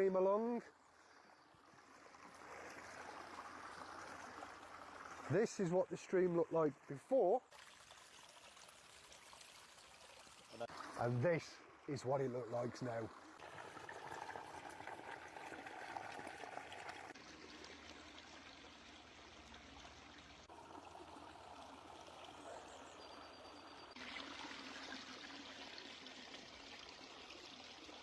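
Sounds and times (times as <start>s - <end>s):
water running and gurgling: 0.0s - 28.0s.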